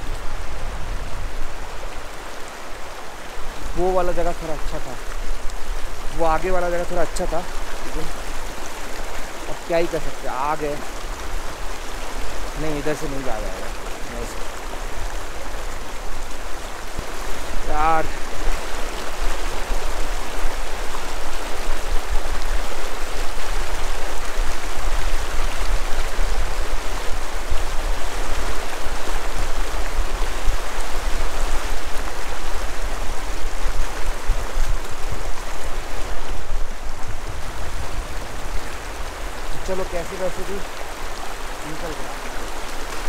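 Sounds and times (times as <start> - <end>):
river rushing over stones: 0.0 - 43.0.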